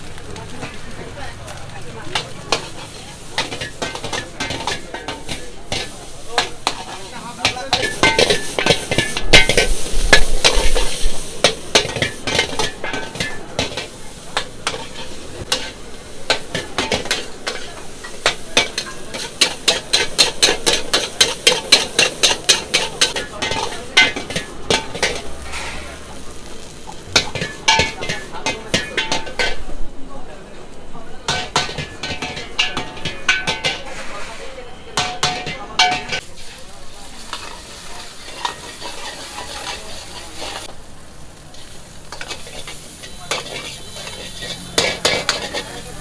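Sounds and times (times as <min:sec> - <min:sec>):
frying sizzle: 0:00.0 - 0:46.0
metal utensils clanking on a wok: 0:00.0 - 0:46.0.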